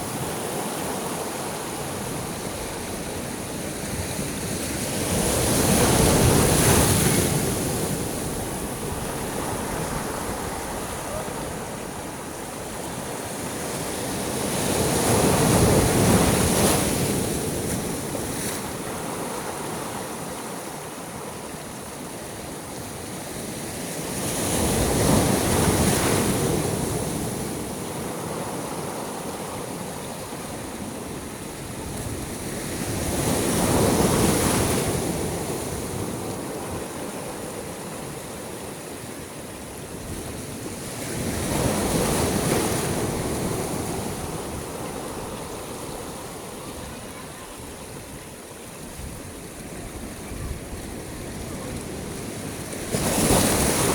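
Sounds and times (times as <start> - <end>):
sea waves surging: 0.0 - 53.9.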